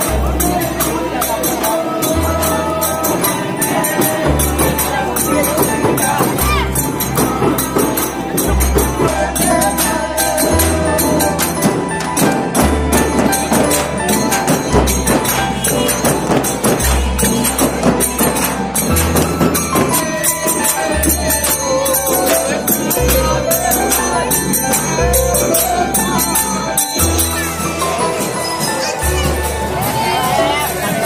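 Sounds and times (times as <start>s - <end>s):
frame drums beating: 0.0s - 31.0s
voices singing: 0.0s - 31.0s.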